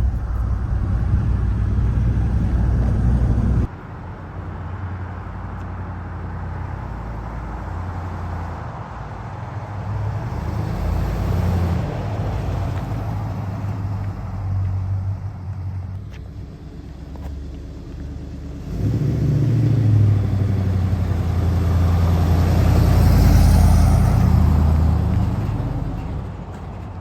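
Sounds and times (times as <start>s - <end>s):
truck engine rumbling: 0.0s - 27.0s.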